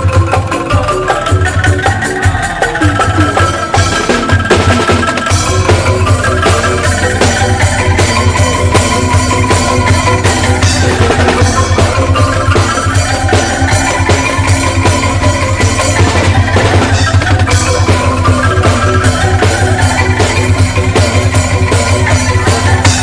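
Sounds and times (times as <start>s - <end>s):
angklung ensemble playing: 0.0s - 23.0s
drums fast steady beat: 0.0s - 23.0s.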